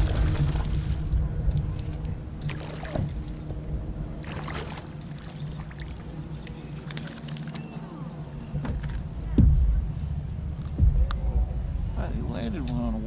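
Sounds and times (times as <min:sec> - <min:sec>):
low water rumble: 0:00.0 - 0:13.0.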